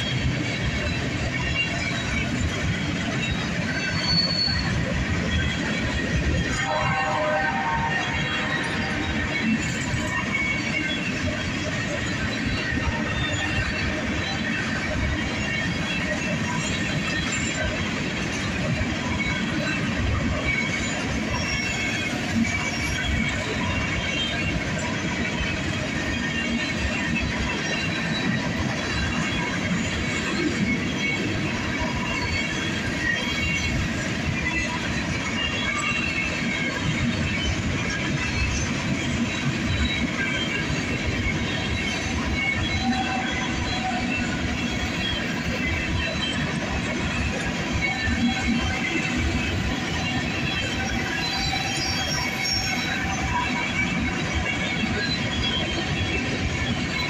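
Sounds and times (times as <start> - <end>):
high wheel squeals: 0.0 - 57.0
train wheels rolling on rails: 0.0 - 57.0.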